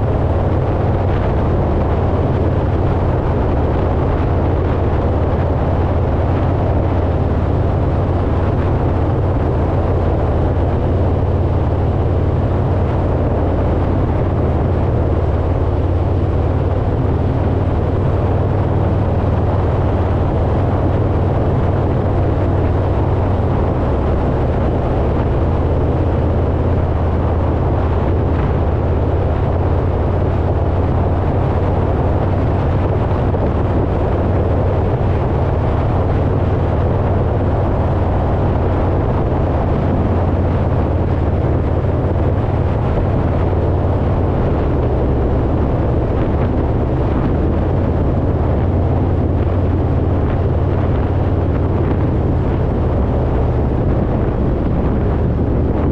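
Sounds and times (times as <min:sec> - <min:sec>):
motorcycle engine rumble: 0:00.0 - 0:55.9
wind rush: 0:00.0 - 0:55.9.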